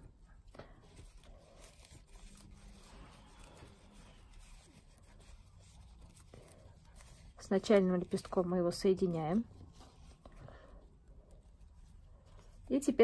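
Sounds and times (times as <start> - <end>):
faint ribbon rustling: 0.0 - 13.0.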